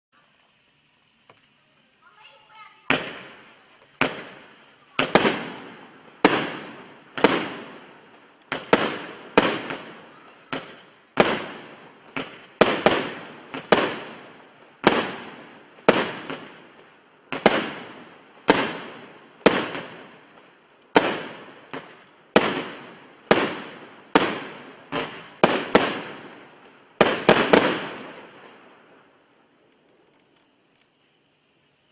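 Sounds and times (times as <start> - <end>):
fireworks shots firing: 2.5 - 29.1.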